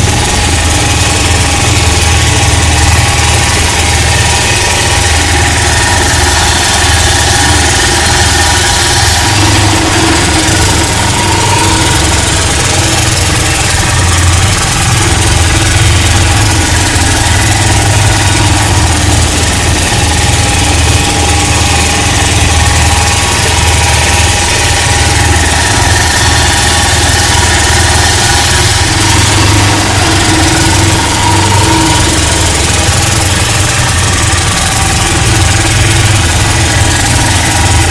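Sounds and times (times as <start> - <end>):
small diesel engine humming: 0.0 - 37.9.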